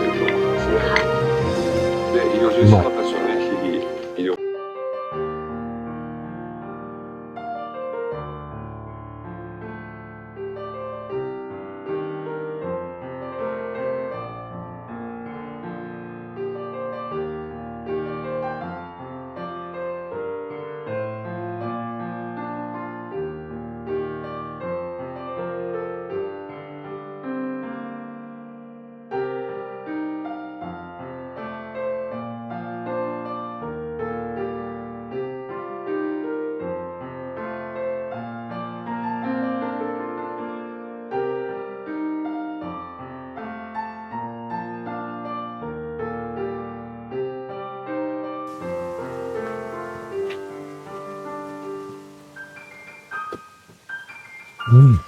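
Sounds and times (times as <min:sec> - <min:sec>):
calm piano music: 0:00.0 - 0:54.7.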